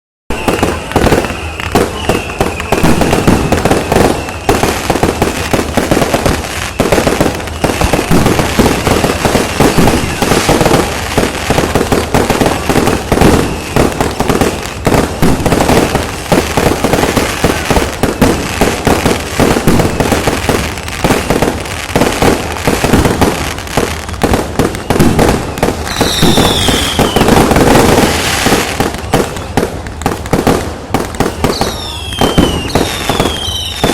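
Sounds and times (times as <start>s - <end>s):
falling firework whistle: 0.3s - 33.9s
fireworks popping and banging: 0.3s - 33.9s.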